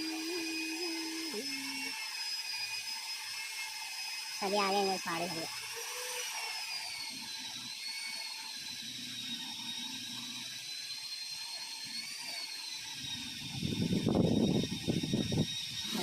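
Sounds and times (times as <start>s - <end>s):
power tool motor whining: 0.0s - 16.0s.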